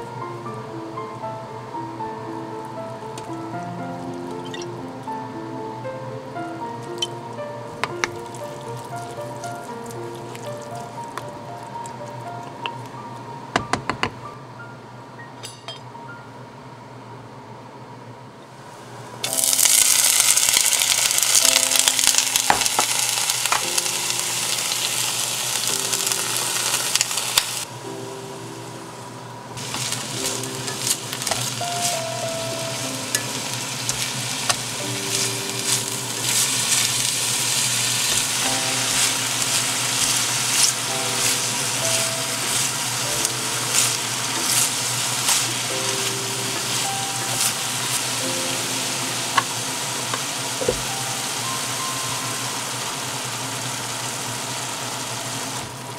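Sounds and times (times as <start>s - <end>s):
soft background music: 0.0s - 16.8s, 19.3s - 53.4s
vegetables sizzling in oil: 2.0s - 13.0s, 19.2s - 55.9s.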